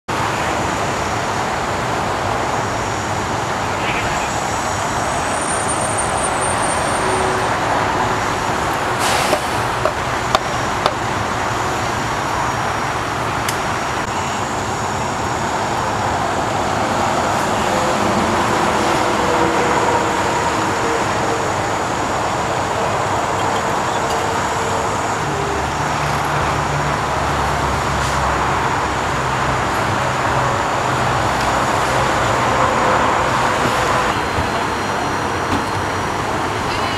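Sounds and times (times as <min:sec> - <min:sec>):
highway traffic: 0:00.0 - 0:36.9.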